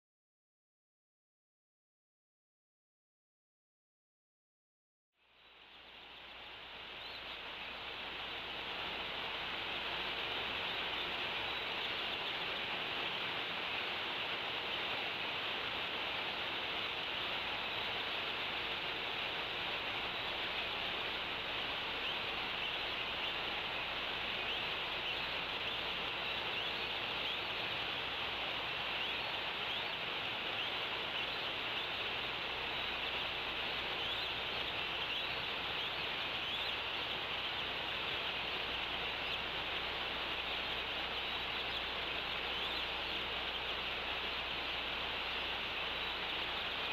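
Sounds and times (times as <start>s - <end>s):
faint bird chirps: 5.2s - 46.9s
steady outdoor hiss: 5.2s - 46.9s.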